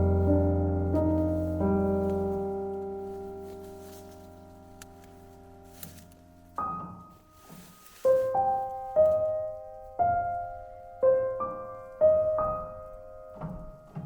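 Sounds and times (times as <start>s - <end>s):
slow soft solo piano: 0.0s - 14.0s.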